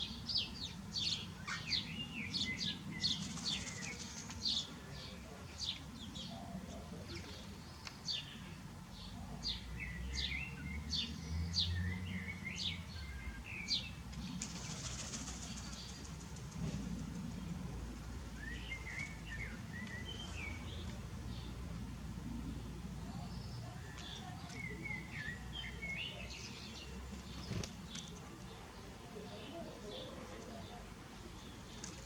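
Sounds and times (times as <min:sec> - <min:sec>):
small birds chirping: 0:00.0 - 0:16.3, 0:18.2 - 0:21.9, 0:22.6 - 0:32.0.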